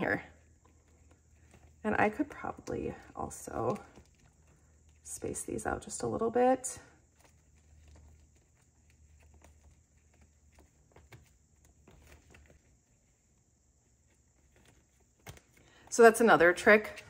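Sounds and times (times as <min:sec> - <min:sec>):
faint clicks and rustles: 0:00.0 - 0:17.0.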